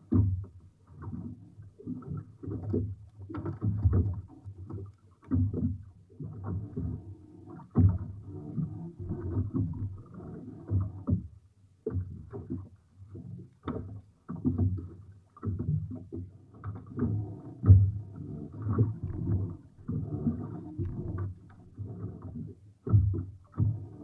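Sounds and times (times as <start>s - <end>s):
water sloshing against boat: 0.0s - 24.0s.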